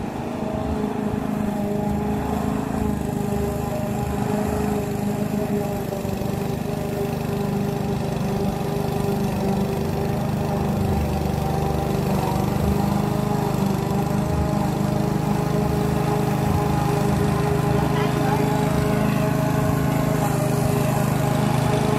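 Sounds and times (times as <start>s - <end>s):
lawn mower engine cutting grass: 0.0s - 21.9s.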